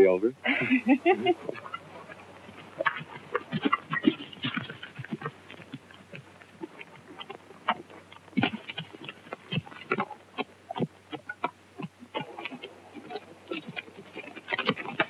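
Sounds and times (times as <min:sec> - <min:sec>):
horse hoofbeats on rough ground: 0:00.9 - 0:15.0.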